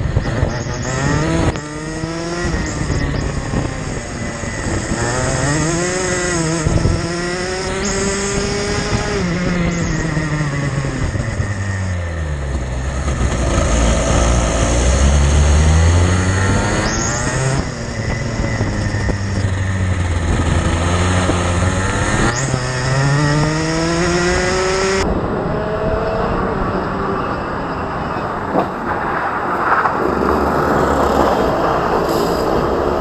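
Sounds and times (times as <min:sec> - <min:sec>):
distant kart engine: 0:00.0 - 0:33.0
racing kart engine revving: 0:00.0 - 0:33.0.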